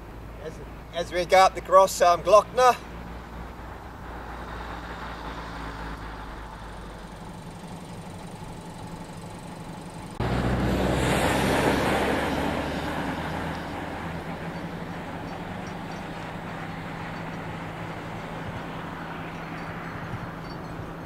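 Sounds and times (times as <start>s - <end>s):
vehicle engine humming: 0.0s - 21.0s
vehicle passing: 0.8s - 21.0s.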